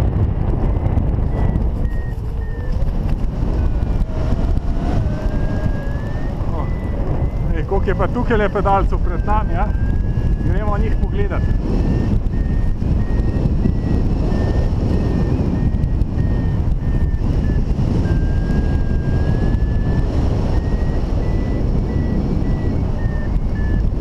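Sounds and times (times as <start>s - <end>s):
airflow rushing over microphone: 0.0s - 24.0s
variometer beeping: 0.0s - 24.0s.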